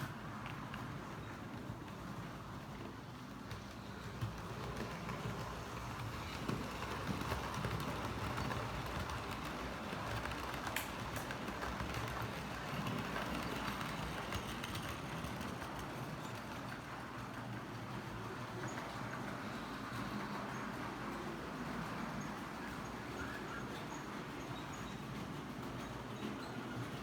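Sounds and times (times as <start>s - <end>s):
model train running: 0.0s - 27.0s.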